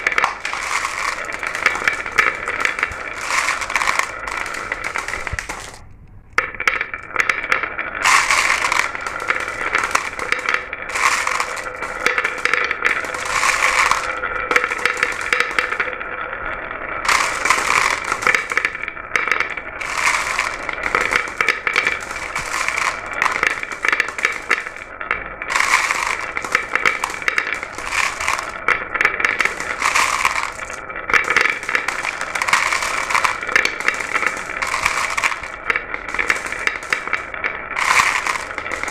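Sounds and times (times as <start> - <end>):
glass marbles clattering down a run: 0.0 - 5.8, 6.4 - 16.0, 17.1 - 38.9.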